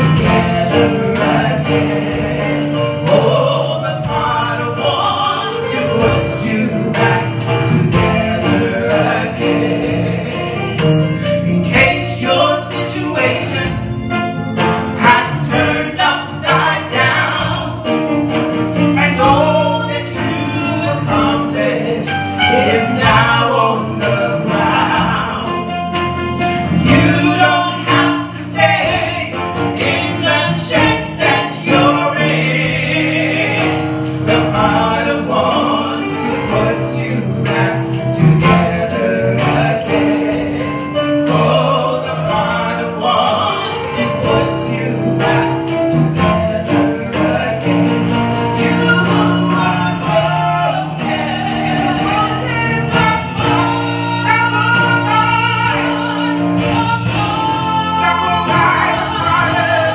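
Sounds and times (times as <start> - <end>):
electric keyboards: 0.0 - 59.9
women singing gospel song: 0.0 - 59.9.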